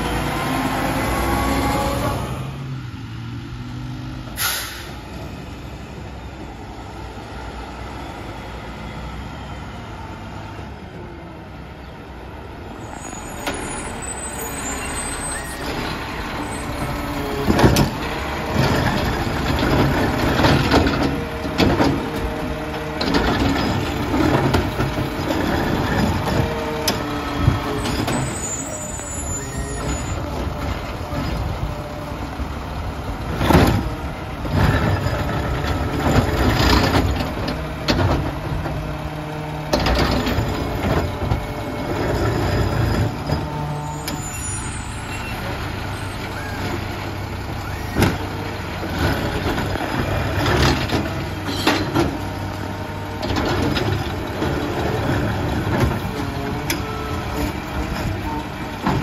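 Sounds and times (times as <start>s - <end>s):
truck engine rumble: 0.0s - 59.0s.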